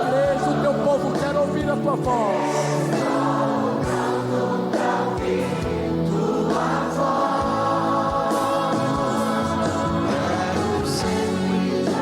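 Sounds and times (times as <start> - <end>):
band accompaniment: 0.0 - 12.0
congregation and choir singing: 0.0 - 12.0.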